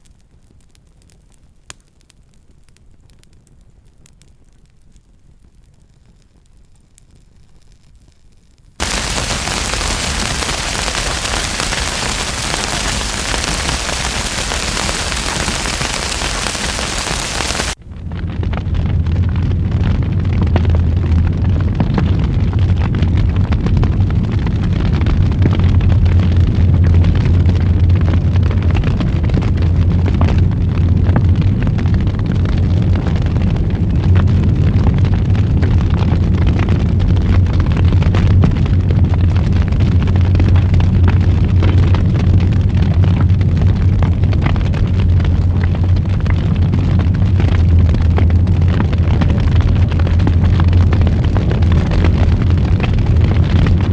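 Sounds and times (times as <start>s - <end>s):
wood fire crackling: 0.0s - 17.8s, 23.2s - 53.9s.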